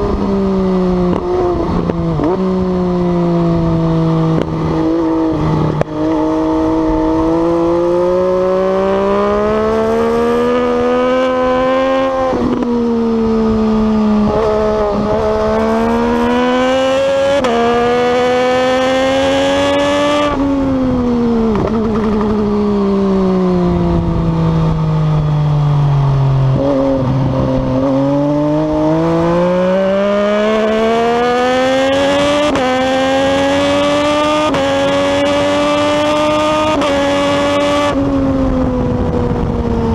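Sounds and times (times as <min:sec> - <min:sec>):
motorcycle engine at full throttle: 0:00.0 - 0:39.9.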